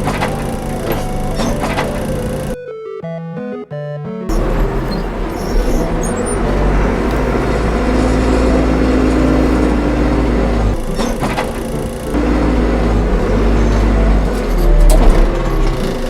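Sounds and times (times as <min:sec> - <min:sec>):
construction vehicle engine rumbling: 0:00.0 - 0:02.6, 0:04.3 - 0:16.0.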